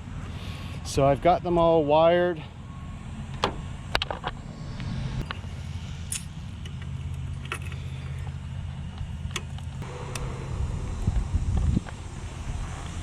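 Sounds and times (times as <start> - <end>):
steady low hum: 2.4 - 13.0.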